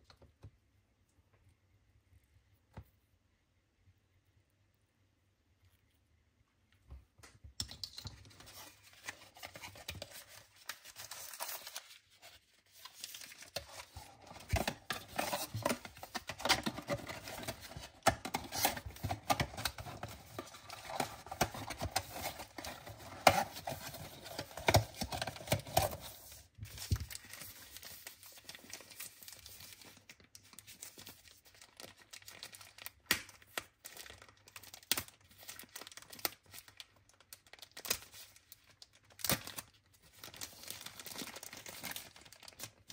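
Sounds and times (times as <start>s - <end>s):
packaging torn and crinkled: 8.3s - 42.9s.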